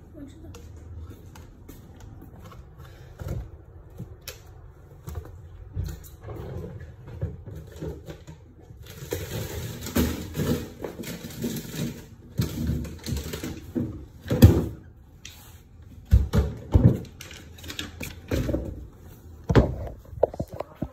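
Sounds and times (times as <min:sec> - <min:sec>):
items clunking and knocking: 0:00.3 - 0:20.9.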